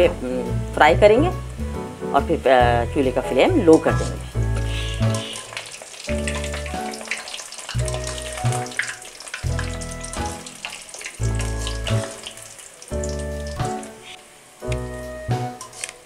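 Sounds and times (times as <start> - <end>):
background music: 0.0 - 16.0
peanuts deep-frying in oil: 0.0 - 16.0.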